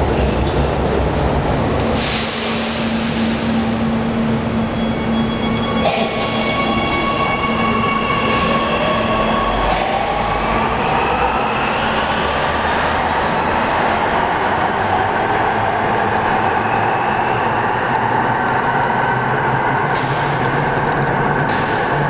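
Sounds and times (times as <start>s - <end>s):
train hum with wheel noise: 0.0s - 22.0s.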